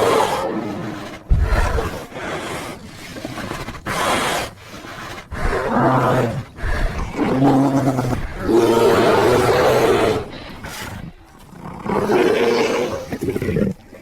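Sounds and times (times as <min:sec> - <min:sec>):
bear growling and roaring: 0:00.0 - 0:14.0
deeper bear growl: 0:00.0 - 0:14.0.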